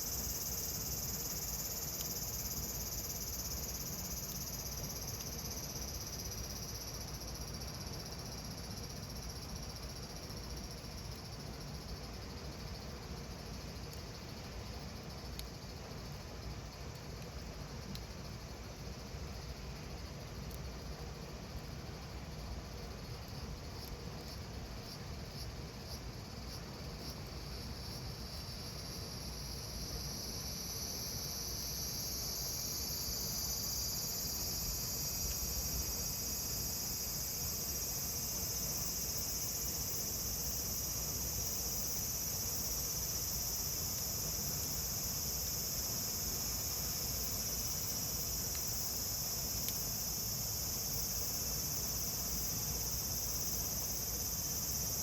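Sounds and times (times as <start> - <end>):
cicadas buzzing: 0.0 - 16.7, 18.2 - 55.0.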